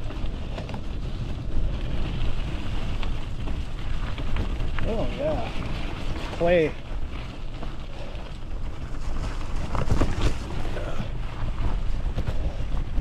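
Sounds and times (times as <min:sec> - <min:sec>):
bike rolling over dirt road: 0:00.0 - 0:13.0
wind rumbling on microphone: 0:00.0 - 0:13.0.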